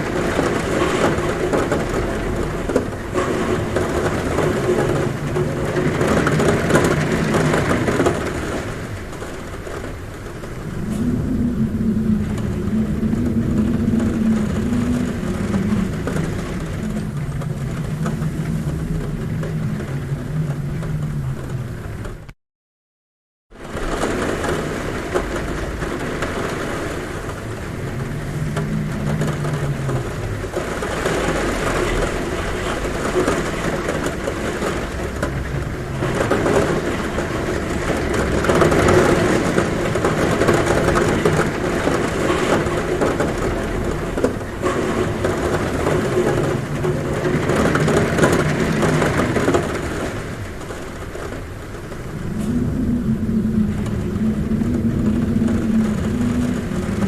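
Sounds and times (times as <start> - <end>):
heavy rain on a roof: 0.0 - 22.4, 23.5 - 57.0.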